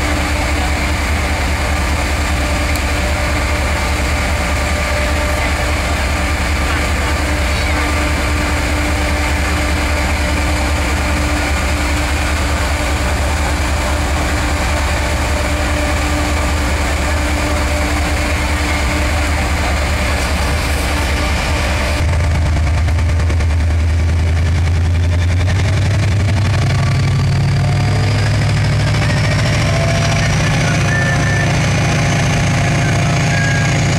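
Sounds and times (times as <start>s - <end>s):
diesel locomotive engine idling: 0.0s - 33.9s.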